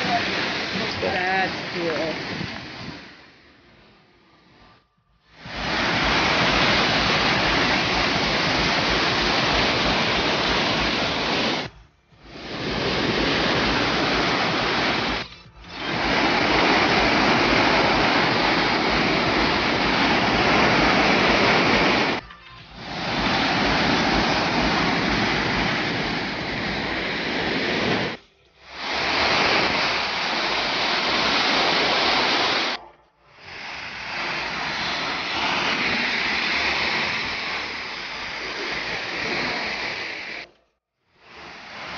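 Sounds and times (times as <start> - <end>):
water rushing over rocks: 0.0 - 3.4, 5.3 - 22.2, 22.8 - 32.8, 33.5 - 40.4, 41.3 - 41.9.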